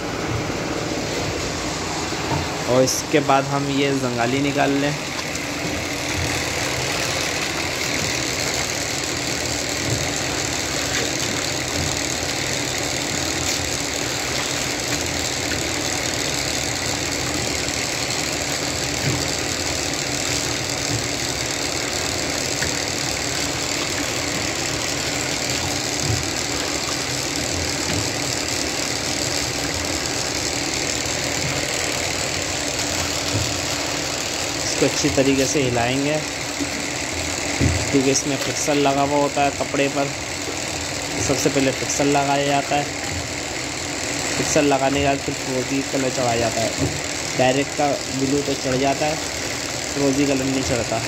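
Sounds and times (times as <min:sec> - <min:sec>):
steady machine roar: 0:00.0 - 0:51.0.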